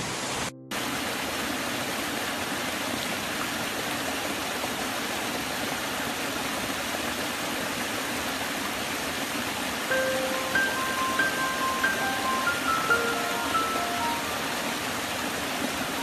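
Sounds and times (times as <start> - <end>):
stream splashing over rocks: 0.0 - 16.0.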